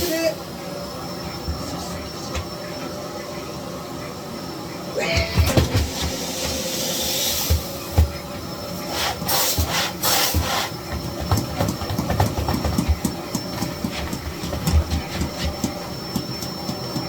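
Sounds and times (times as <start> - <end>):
vacuum cleaner whine: 0.0 - 17.0.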